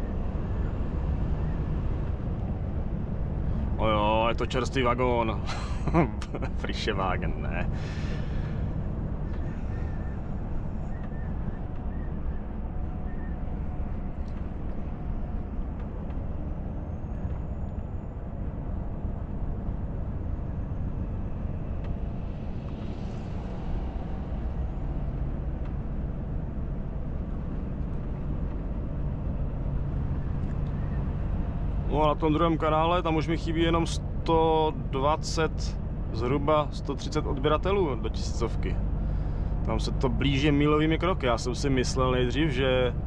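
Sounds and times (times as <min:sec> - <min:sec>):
road rumble: 0:00.0 - 0:43.0
truck engine drone: 0:00.0 - 0:43.0.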